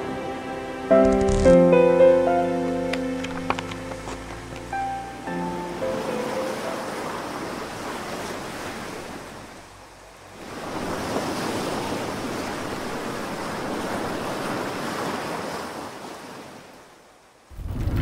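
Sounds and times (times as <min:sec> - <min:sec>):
ocean waves washing on shore: 0:00.0 - 0:18.0.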